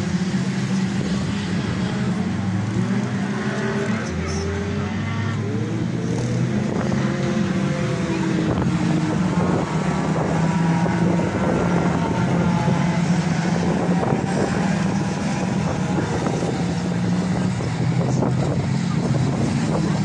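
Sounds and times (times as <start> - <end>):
racing car engines droning: 0.0 - 20.0.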